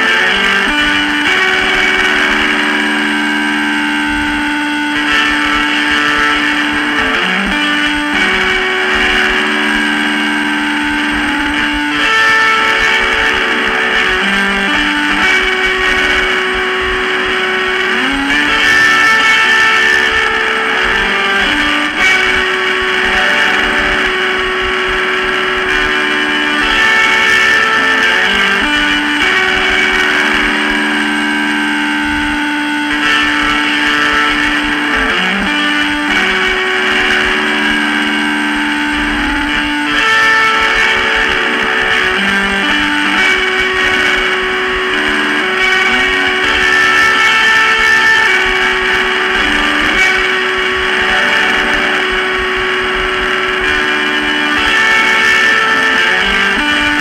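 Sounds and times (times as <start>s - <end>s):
lo-fi guitar chords: 0.0s - 57.0s.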